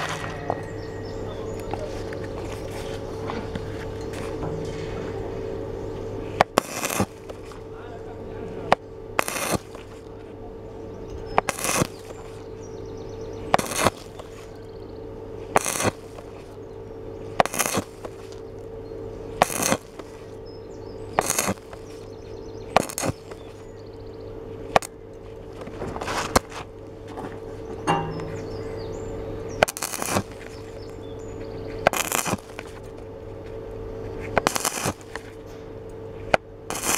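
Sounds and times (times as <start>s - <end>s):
arc welding crackle: 0.0s - 36.9s
steady hum: 0.0s - 36.9s.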